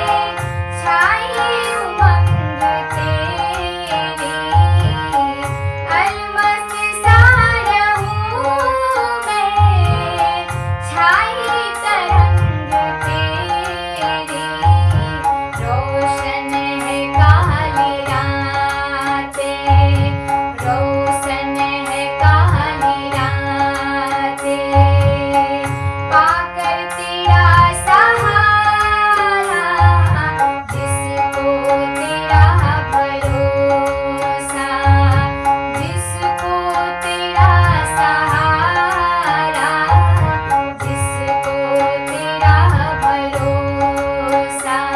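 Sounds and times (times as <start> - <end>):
hand drum beat: 4.5 - 26.4, 27.1 - 44.9.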